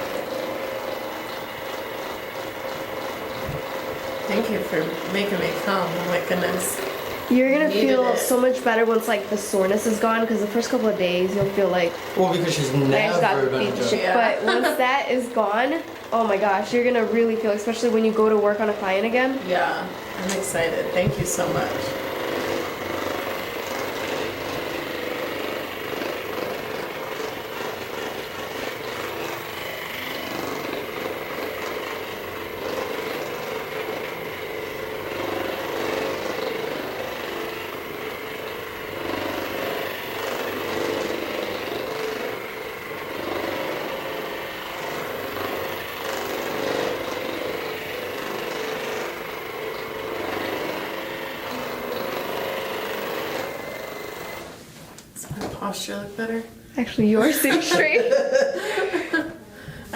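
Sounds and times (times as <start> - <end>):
motorized device buzzing hum: 0.0 - 54.6.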